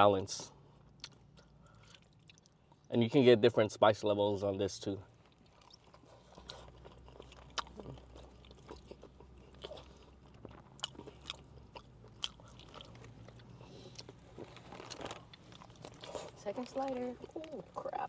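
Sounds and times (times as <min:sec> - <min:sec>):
low steady car hum: 0:00.0 - 0:18.0
chewing and mouth sounds: 0:00.8 - 0:02.9, 0:05.1 - 0:17.9.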